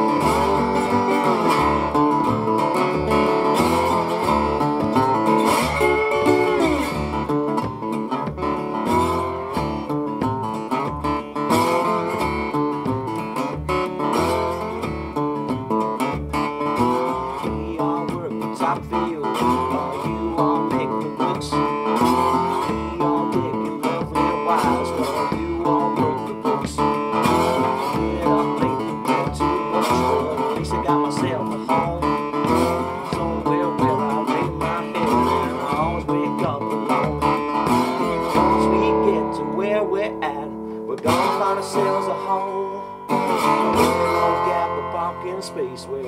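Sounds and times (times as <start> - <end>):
plucked double bass: 0.0 - 46.0
slide resonator guitar: 0.0 - 46.0.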